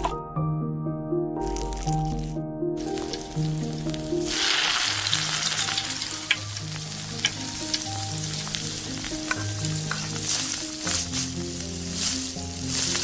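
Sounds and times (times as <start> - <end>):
hot oil sizzling in a pan: 1.6 - 13.0.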